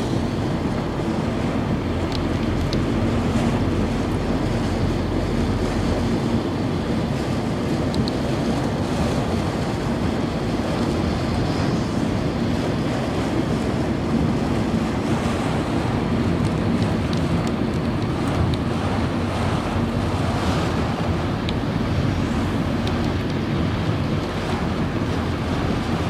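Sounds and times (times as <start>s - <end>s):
heavy rain on car: 0.0s - 26.0s
road noise: 0.0s - 26.0s.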